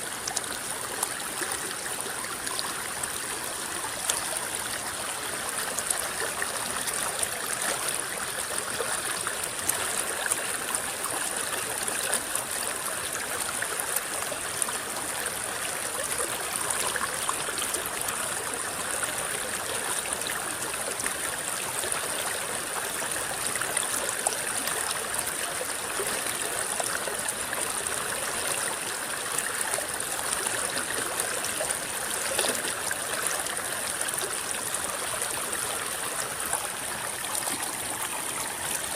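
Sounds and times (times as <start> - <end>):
river rippling and babbling: 0.0 - 38.9.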